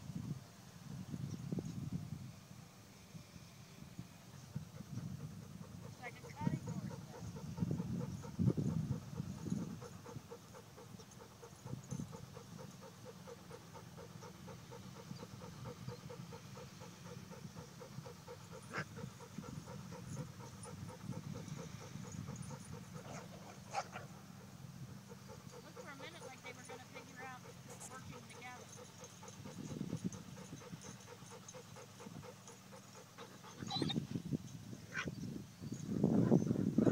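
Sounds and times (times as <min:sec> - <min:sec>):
rhythmic panting: 0:04.5 - 0:34.6.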